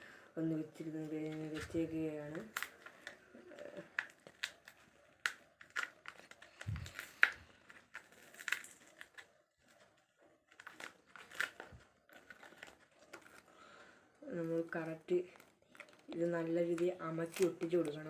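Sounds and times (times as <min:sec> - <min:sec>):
tape crinkling: 0:00.8 - 0:18.0.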